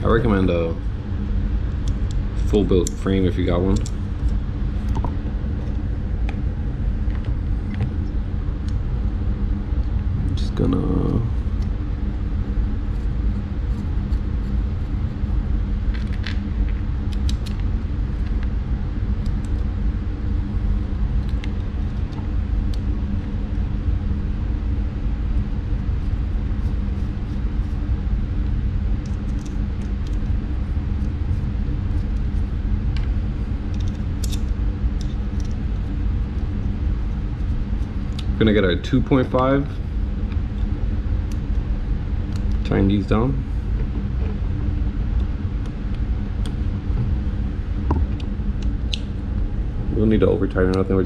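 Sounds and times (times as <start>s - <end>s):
low mechanical rumble and hum: 0.0s - 51.0s.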